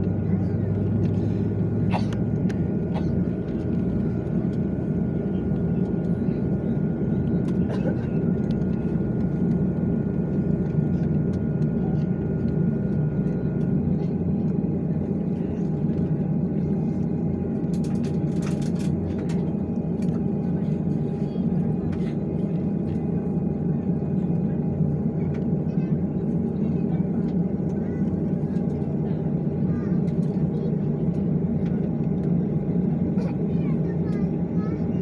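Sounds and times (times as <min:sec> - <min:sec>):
jet engines rumbling in cabin: 0:00.0 - 0:35.0.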